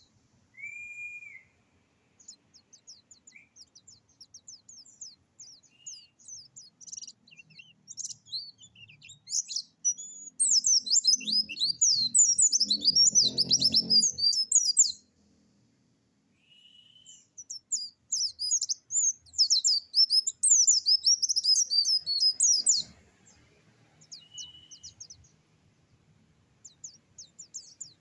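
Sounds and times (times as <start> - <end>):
songbird singing trills: 2.2 - 15.1, 16.5 - 25.4, 26.6 - 28.0.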